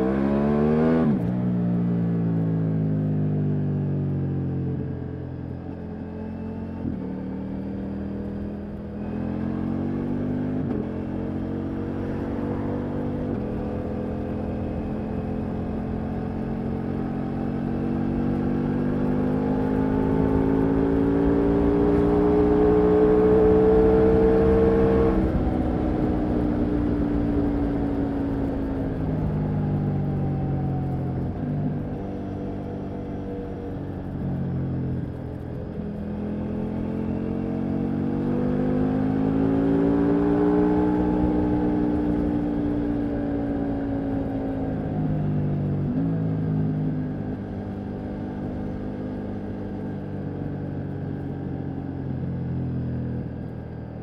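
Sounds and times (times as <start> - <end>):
motorcycle engine accelerating hard: 0.0 - 54.0.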